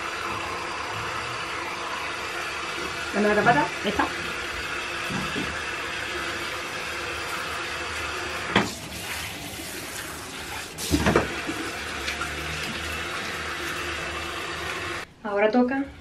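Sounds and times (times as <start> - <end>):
shower spray running: 0.0 - 15.1.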